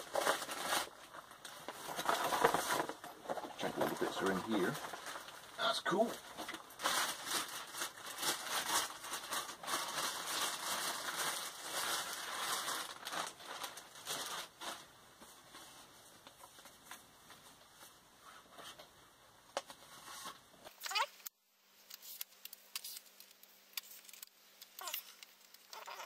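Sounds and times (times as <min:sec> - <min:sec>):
packaging crinkling and rustling: 0:00.0 - 0:18.0, 0:19.6 - 0:26.0.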